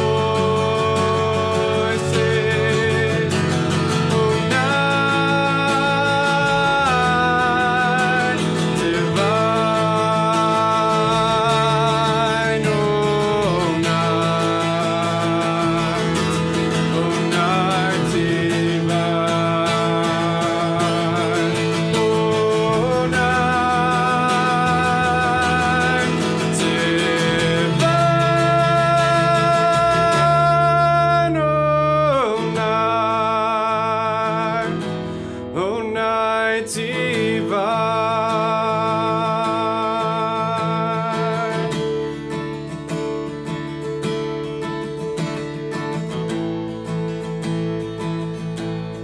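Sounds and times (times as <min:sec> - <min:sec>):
acoustic guitar: 0:00.0 - 0:49.0
person singing with vibrato: 0:00.0 - 0:49.0.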